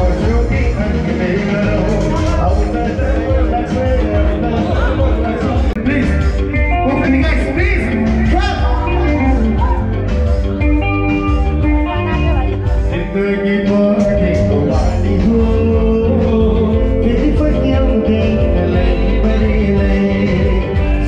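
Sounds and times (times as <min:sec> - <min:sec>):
man singing: 0:00.0 - 0:10.1, 0:12.0 - 0:21.0
live band playing: 0:00.0 - 0:21.0.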